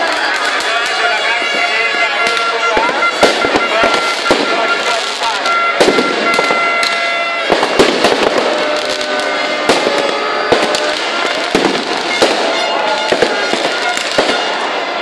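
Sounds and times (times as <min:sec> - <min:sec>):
crowd: 0:00.0 - 0:15.0
fireworks cracking and banging: 0:00.0 - 0:15.0.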